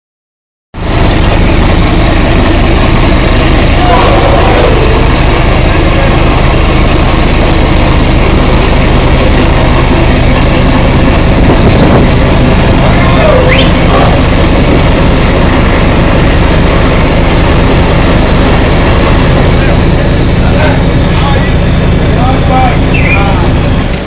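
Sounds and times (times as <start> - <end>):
diesel engine idling loudly: 0.8 - 24.0.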